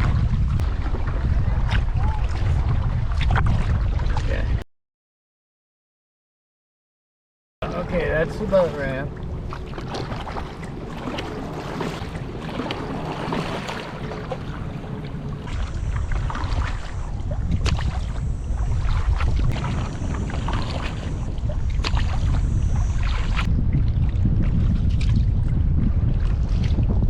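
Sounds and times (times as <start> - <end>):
paddle splashing in water: 0.0 - 4.6, 7.6 - 27.0
wind rumbling on microphone: 0.0 - 4.6, 7.6 - 27.0.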